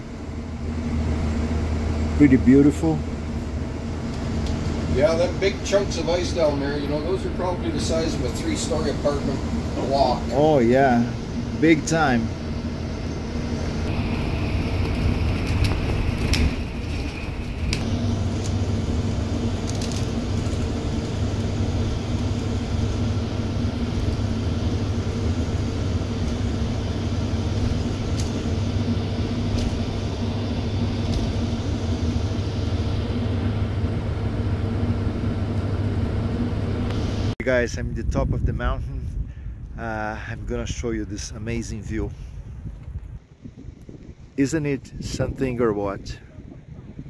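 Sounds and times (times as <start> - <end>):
bus engine hum: 0.0 - 37.4, 40.2 - 47.0
faint high whine: 0.0 - 38.0.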